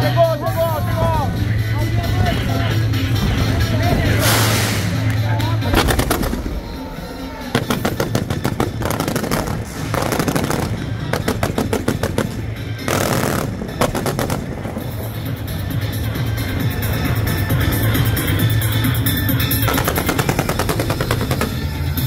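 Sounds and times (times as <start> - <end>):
fireworks bangs and crackles: 0.8 - 22.0.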